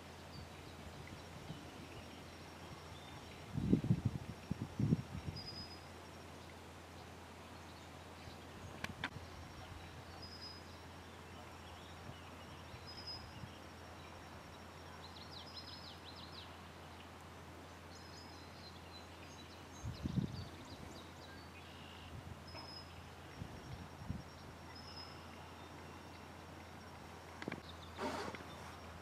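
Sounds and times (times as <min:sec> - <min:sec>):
songbirds chirping and trilling: 0:00.0 - 0:29.0.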